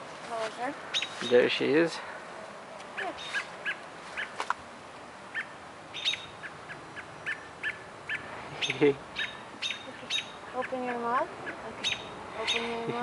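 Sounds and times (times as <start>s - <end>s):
small birds chirping: 0.3s - 1.7s, 2.7s - 4.6s, 5.2s - 13.0s.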